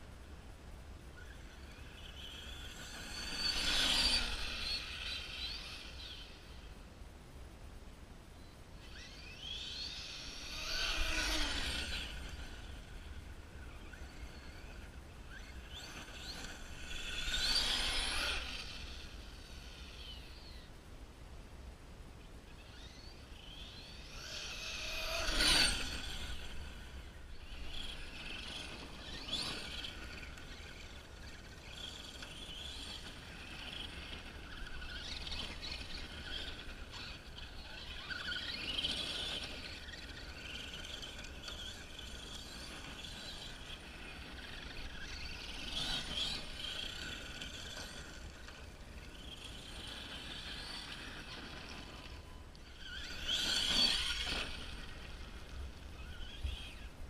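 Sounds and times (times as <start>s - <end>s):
electric motor whining: 8.9s - 20.4s, 22.7s - 57.0s.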